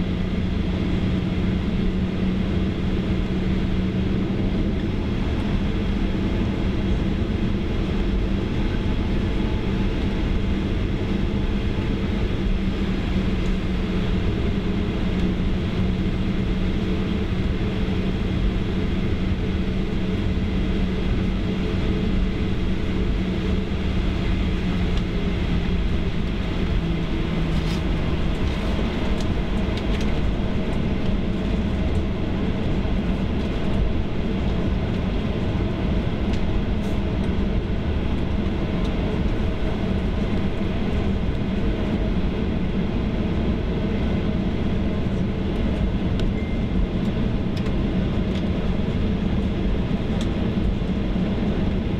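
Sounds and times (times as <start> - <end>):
airliner rolling rumble: 0.0 - 51.9
jet engines humming: 0.0 - 51.9.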